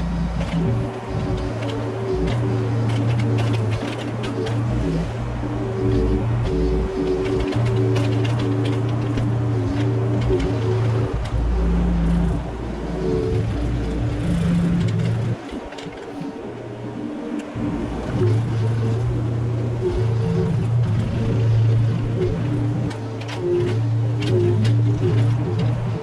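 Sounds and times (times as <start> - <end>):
background music with held notes: 0.0 - 26.0
excavator engine running: 0.0 - 26.0.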